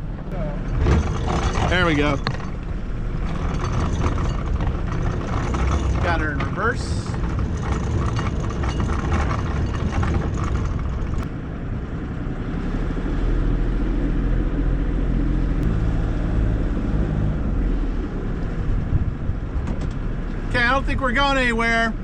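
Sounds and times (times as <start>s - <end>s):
boat diesel engine droning: 0.0s - 22.0s.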